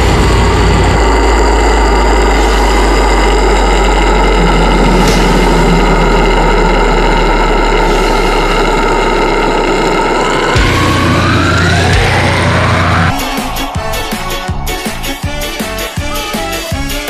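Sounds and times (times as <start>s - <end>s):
harsh distorted metal scream: 0.0s - 17.0s.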